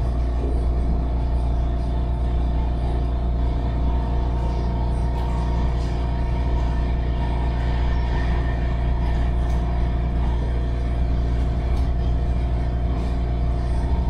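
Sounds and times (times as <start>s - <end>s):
multi-tone hum: 0.0s - 14.0s.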